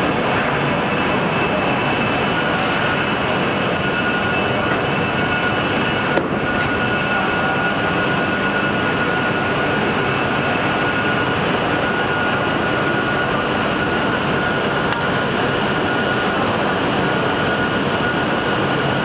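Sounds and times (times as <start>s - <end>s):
high machine whine: 0.0s - 19.0s
woodworking machine running: 0.0s - 19.0s.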